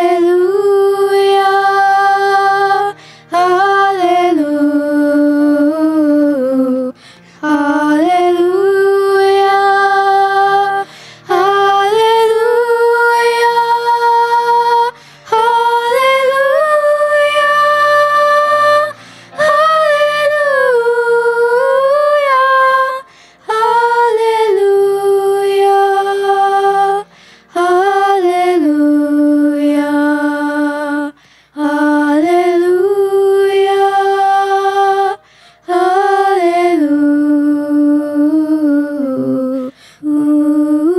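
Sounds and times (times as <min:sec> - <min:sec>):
chorus singing in unison: 0:00.0 - 0:40.2.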